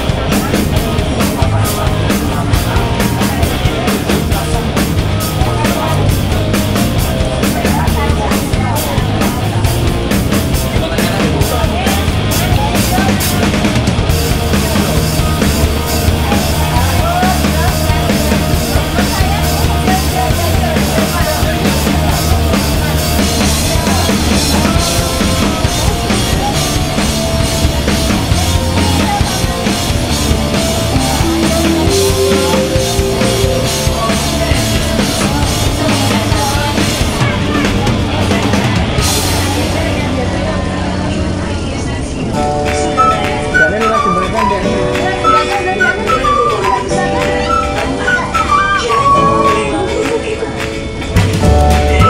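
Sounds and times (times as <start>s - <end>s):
background music with drums: 0.0s - 40.4s, 42.4s - 52.0s.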